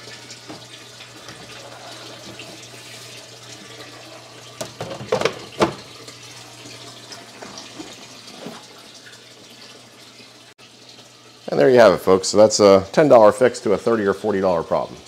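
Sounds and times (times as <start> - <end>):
aquarium water trickling: 0.0 - 15.0.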